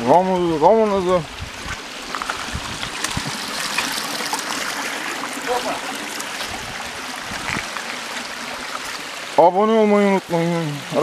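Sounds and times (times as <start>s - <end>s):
waterfall rushing and splashing: 0.0s - 11.0s.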